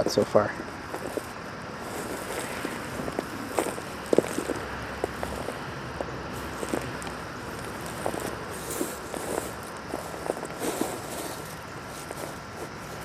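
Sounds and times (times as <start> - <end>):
background hiss: 0.0 - 13.0
hands digging through soil: 0.8 - 13.0.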